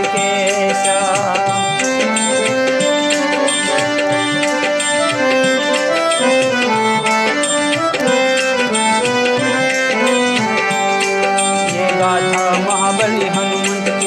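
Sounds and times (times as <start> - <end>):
hand drum rhythm: 0.0 - 14.0
harmonium melody: 0.0 - 14.0.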